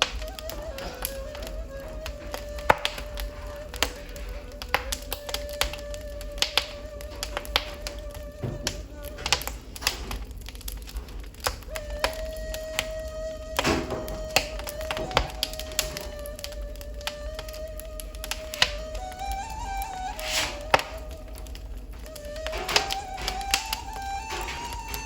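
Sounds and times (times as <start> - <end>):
ney flute long notes: 0.0 - 25.0
wood fire crackling and popping: 0.0 - 25.0.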